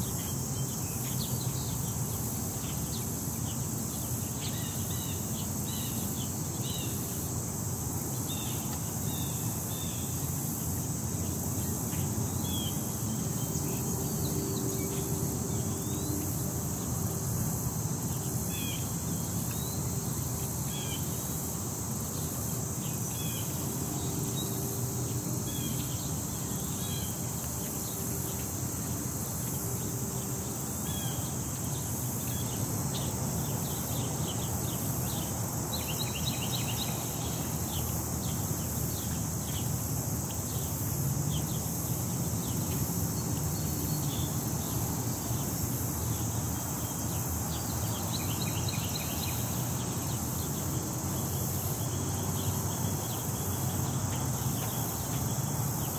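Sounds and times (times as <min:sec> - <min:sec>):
insect drone: 0:00.0 - 0:55.9.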